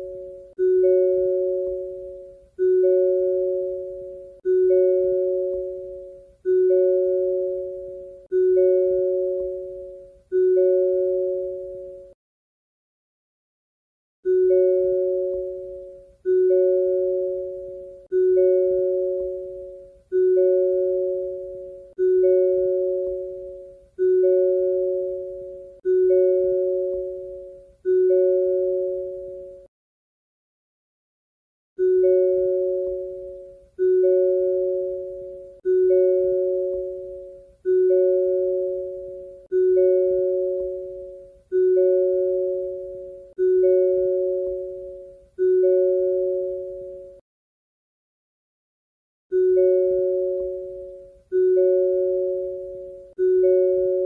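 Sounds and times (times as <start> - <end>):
two-tone car warning chime: 0.0 - 12.2, 14.3 - 29.7, 31.8 - 47.2, 49.3 - 54.0.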